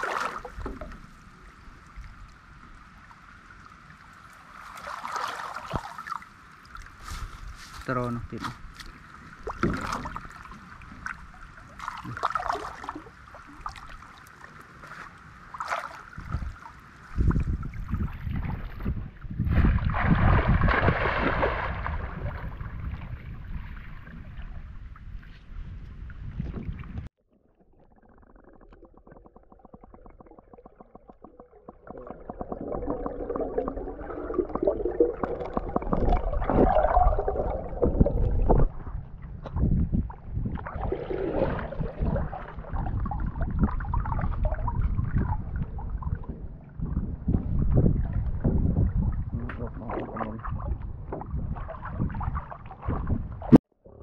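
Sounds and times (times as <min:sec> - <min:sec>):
water splashing and sloshing: 0:00.0 - 0:53.8.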